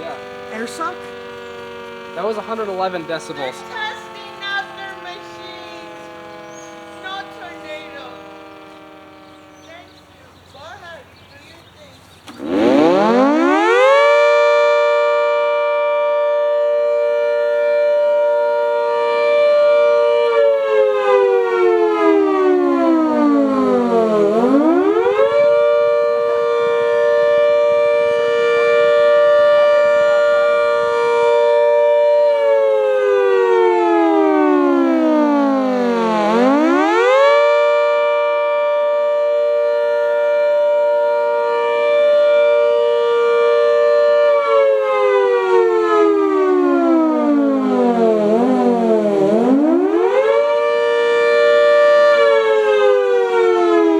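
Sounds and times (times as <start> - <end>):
mechanical siren wailing: 0.0 - 53.9.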